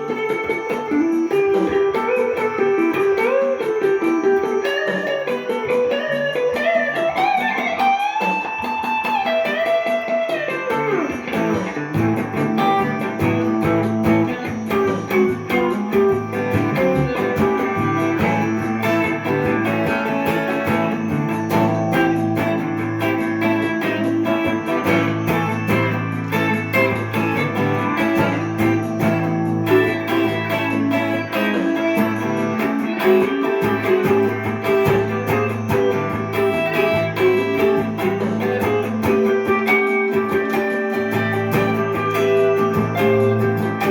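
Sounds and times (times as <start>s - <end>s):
electric guitar improvising: 0.0s - 43.9s.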